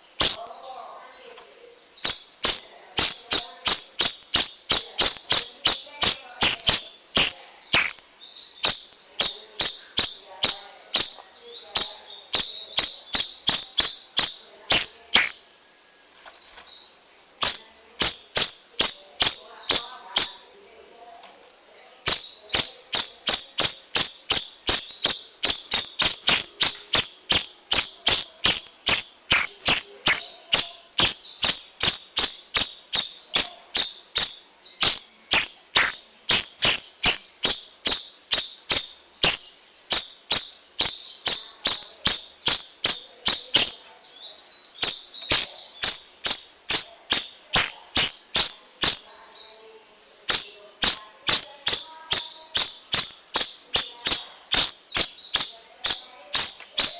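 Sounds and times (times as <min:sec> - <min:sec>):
songbird chirping: 0:00.0 - 0:56.9.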